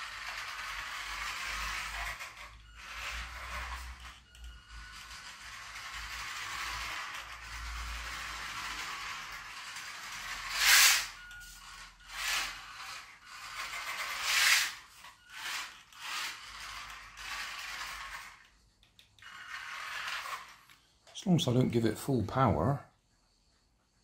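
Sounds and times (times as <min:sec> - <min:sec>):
toy car motor whirring: 0:00.0 - 0:21.1
plastic wheels rolling on floor: 0:00.0 - 0:21.5.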